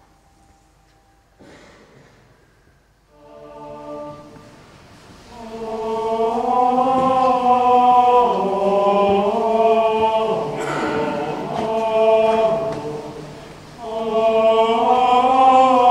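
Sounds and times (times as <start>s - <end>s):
choir singing a carol: 3.1s - 15.9s.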